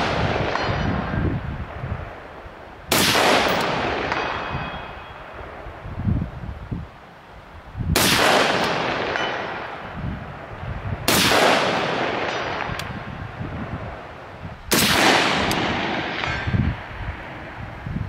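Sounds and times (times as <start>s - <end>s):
rifle shots with rolling echo: 0.0s - 5.8s, 8.0s - 17.6s.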